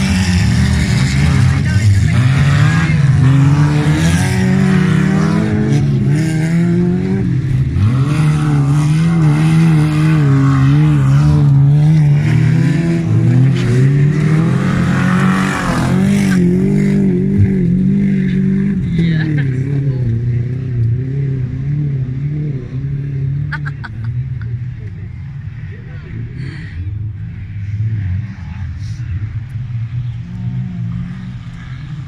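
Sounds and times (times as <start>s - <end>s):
race car engines revving: 0.0s - 32.0s.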